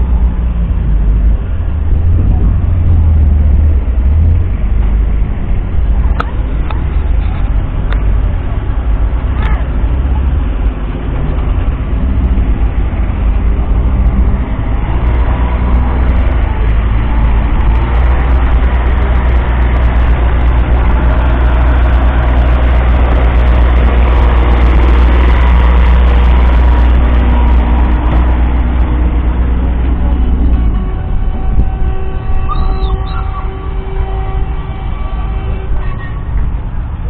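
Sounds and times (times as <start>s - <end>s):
diesel engine deep rumble: 0.0s - 37.0s.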